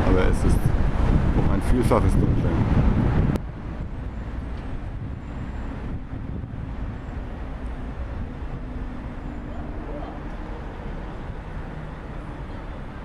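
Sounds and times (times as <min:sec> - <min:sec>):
city road traffic rumble: 0:00.0 - 0:13.0.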